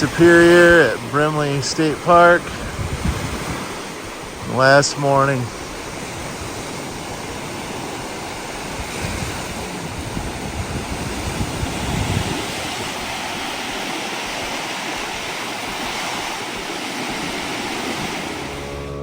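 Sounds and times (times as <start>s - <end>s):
waves washing onto shore: 0.0s - 19.0s
wind buffeting microphone: 0.0s - 19.0s.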